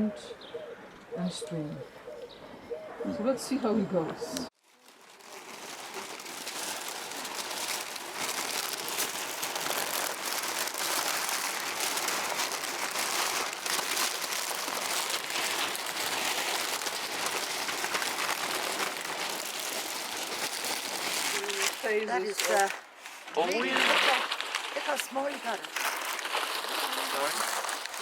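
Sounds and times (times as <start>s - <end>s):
paper crumpling by hand: 4.5s - 28.0s.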